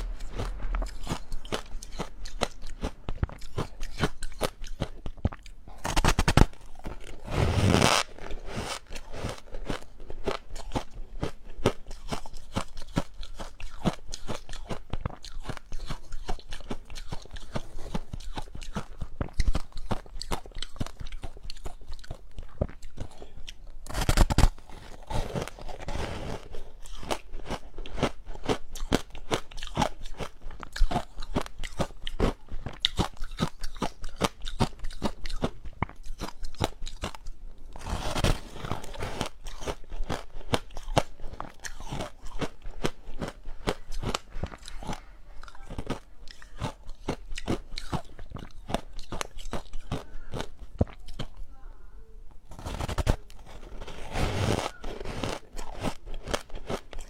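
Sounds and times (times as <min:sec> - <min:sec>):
chewing ice crunches: 0:00.0 - 0:51.4, 0:52.5 - 0:57.0.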